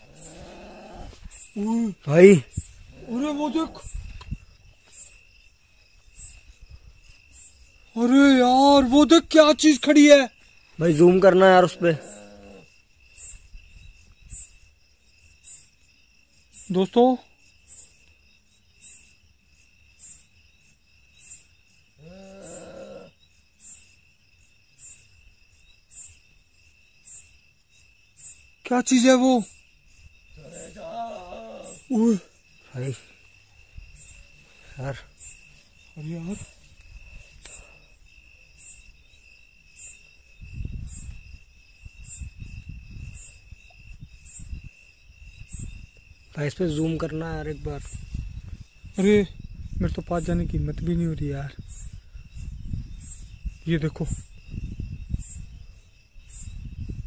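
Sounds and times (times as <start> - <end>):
faint insect chirp: 0.0 - 57.0
insects trilling: 0.0 - 57.0.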